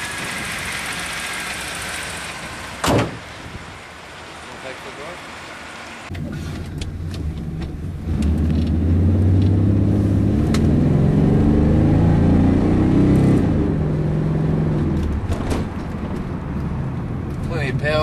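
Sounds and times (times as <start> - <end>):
car engine accelerating: 3.5 - 18.0.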